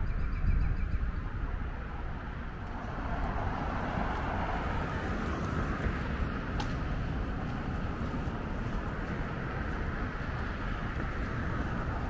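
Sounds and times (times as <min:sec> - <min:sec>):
road traffic passing: 0:00.6 - 0:12.0.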